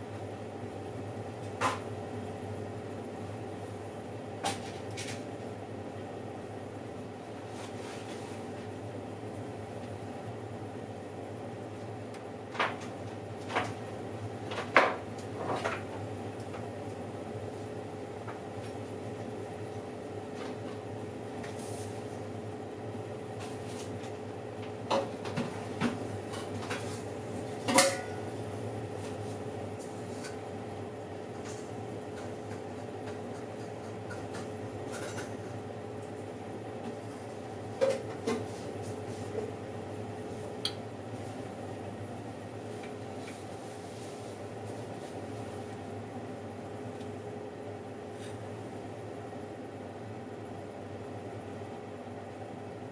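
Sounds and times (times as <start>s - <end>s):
oven humming: 0.0s - 52.9s.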